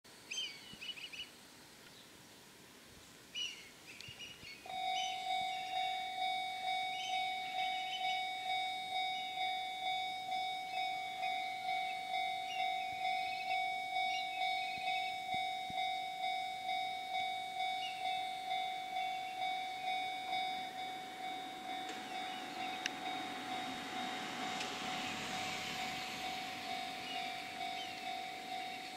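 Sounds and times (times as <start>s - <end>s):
level crossing electronic bell: 4.7s - 28.9s.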